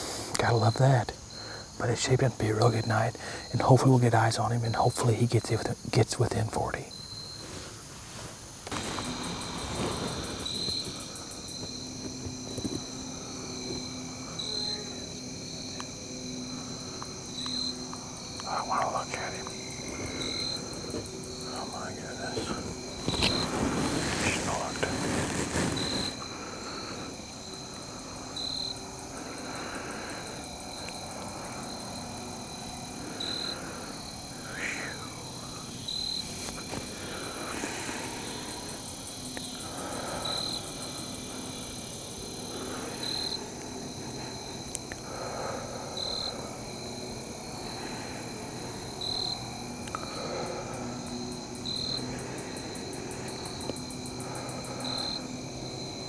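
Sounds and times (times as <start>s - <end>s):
crickets and katydids trilling: 0.0s - 56.0s
loud short insect chirp: 0.1s - 56.0s.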